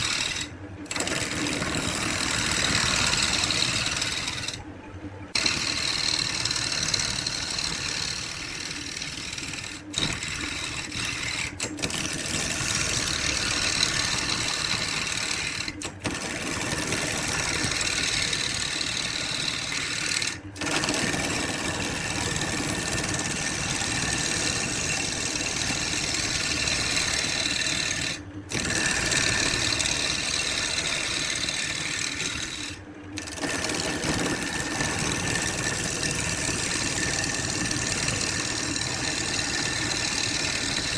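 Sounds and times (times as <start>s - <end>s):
power tool whirring: 0.0s - 4.6s, 5.3s - 40.9s.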